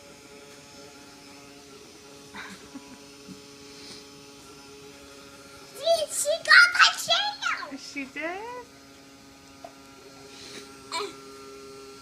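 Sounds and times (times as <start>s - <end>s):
vacuum cleaner motor humming: 0.0s - 12.0s.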